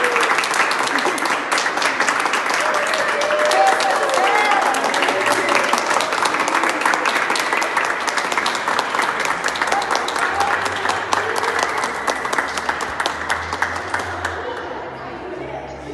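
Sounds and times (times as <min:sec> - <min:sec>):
people clapping: 0:00.0 - 0:15.0.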